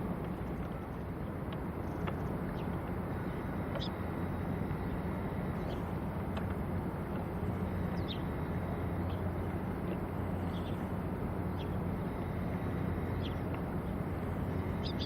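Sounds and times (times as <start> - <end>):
harbour background hiss: 0.0 - 15.0
ship engine drone: 0.0 - 15.0.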